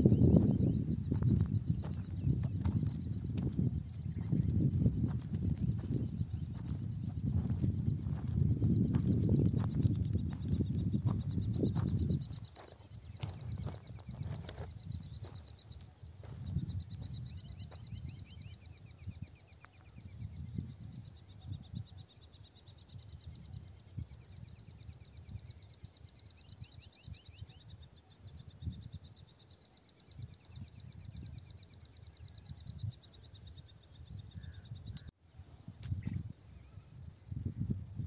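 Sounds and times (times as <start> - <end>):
insects chirping in pulsed trills: 0.0 - 35.1.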